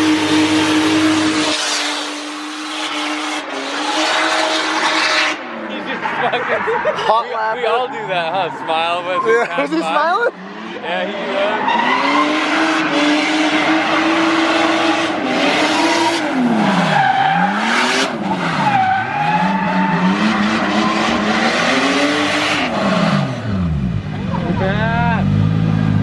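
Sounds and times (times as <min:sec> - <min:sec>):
car engine revving hard: 0:00.0 - 0:06.4, 0:10.3 - 0:26.0.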